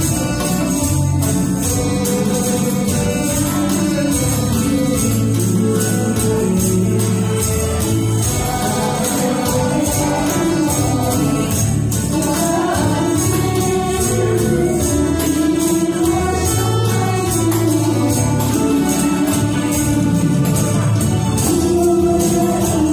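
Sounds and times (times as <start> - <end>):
pop song backing track: 0.0 - 22.9
tambourines and shakers jingling: 0.0 - 22.9.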